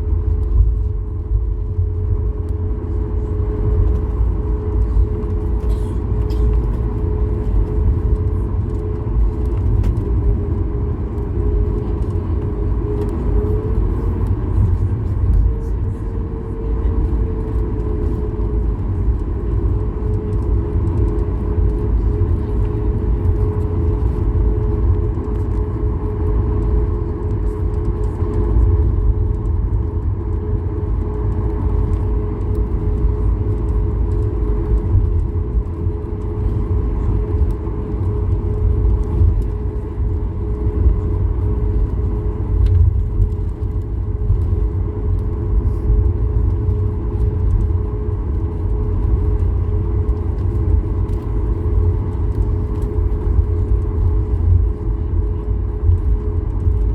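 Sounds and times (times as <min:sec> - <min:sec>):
airplane cabin engine rumble: 0:00.0 - 0:56.9.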